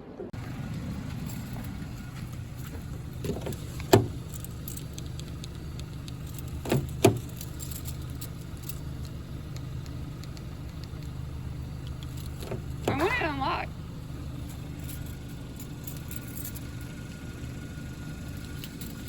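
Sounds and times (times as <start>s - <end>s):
steady low hum: 0.4s - 19.0s.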